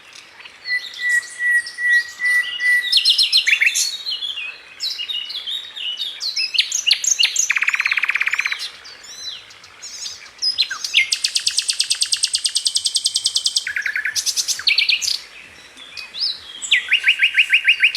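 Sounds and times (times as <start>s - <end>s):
songbirds chirping and trilling: 0.0s - 17.9s.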